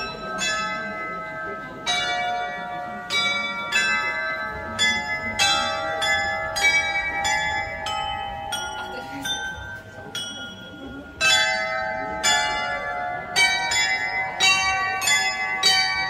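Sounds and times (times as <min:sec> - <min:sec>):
glockenspiel bells playing a tune: 0:00.0 - 0:16.0
murmur of street crowd: 0:00.0 - 0:16.0.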